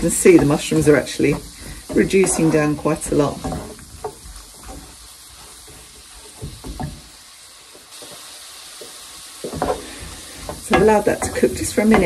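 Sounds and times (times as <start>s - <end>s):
vegetables sizzling in a frying pan: 0.0s - 12.0s
wooden spoon knocking a pan: 0.0s - 12.0s.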